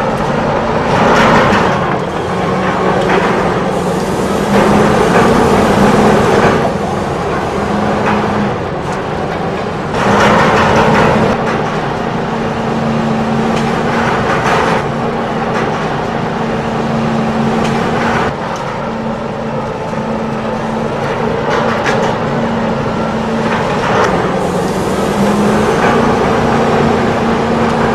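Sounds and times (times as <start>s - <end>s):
electric motors humming: 0.0s - 27.9s.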